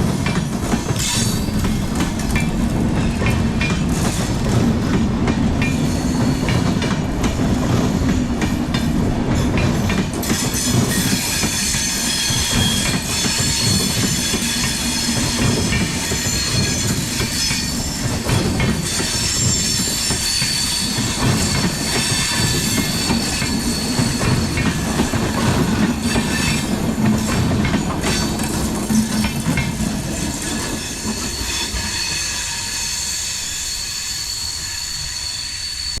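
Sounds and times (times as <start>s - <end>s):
train rumble: 0.0s - 36.0s
train wheels squealing on rails: 0.0s - 36.0s.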